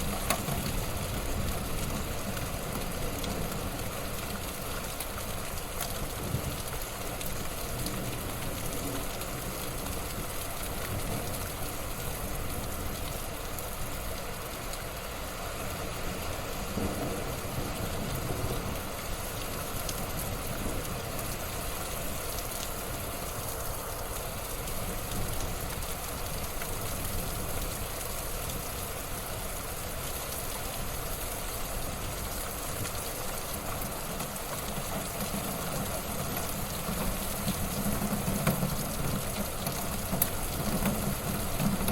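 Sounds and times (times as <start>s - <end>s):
wood fire hissing and crackling: 0.0s - 41.9s.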